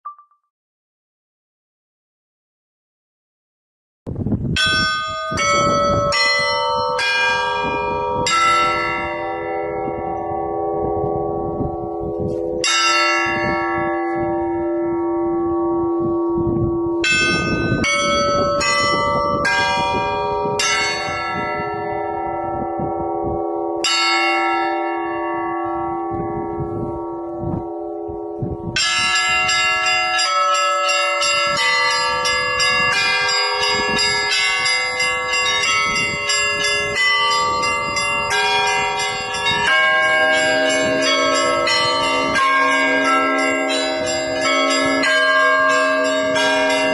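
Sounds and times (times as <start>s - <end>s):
church bells ringing: 4.5s - 46.9s.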